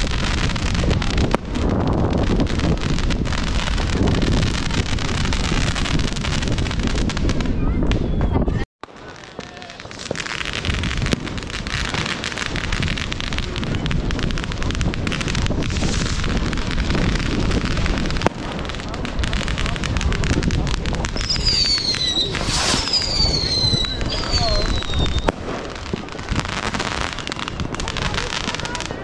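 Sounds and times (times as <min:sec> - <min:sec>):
fireworks hissing and crackling: 0:00.0 - 0:29.0
whistling fireworks: 0:00.0 - 0:29.0.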